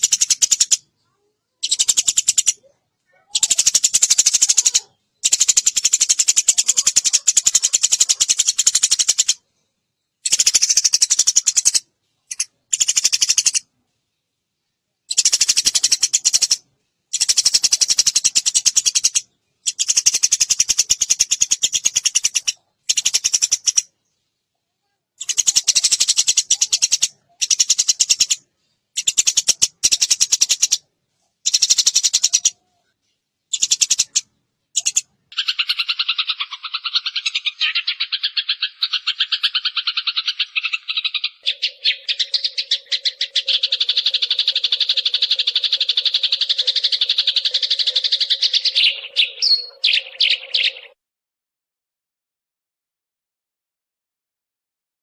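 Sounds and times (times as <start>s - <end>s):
sparrow chirping: 0.0s - 9.4s, 10.1s - 13.7s, 15.1s - 24.4s, 25.2s - 30.8s, 31.4s - 32.7s, 33.4s - 51.0s.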